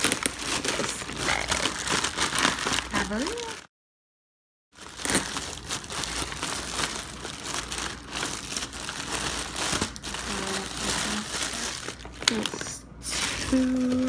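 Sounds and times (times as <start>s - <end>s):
plastic bag crinkling: 0.0s - 3.6s, 4.8s - 14.0s.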